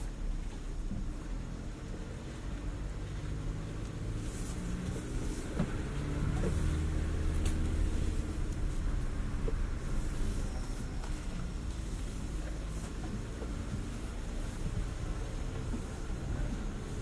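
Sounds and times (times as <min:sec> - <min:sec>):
car engine running under load: 0:00.0 - 0:17.0.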